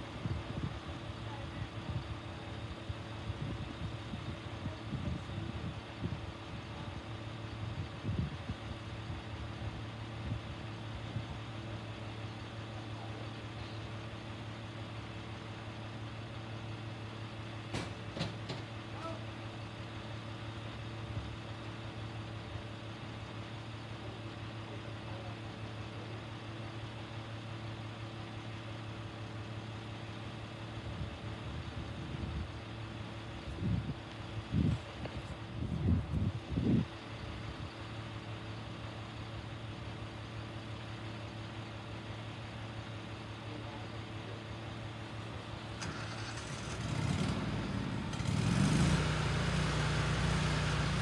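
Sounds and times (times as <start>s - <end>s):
truck engine idling: 0.0s - 51.0s.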